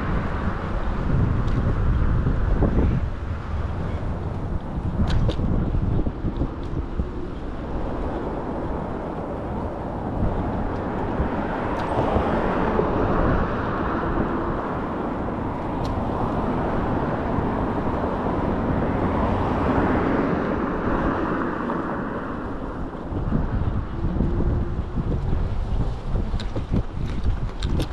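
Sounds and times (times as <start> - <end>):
bicycle road noise: 0.0 - 27.9
wind rushing over microphone: 0.0 - 27.9.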